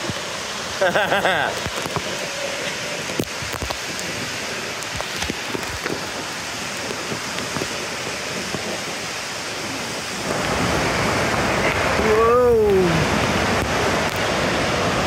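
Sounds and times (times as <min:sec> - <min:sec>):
water rushing into a pool: 0:00.0 - 0:15.0.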